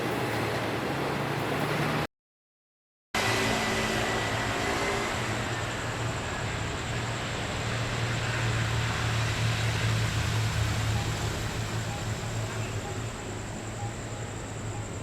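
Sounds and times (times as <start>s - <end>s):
train rumble and hum: 0.0s - 2.1s, 3.2s - 15.0s.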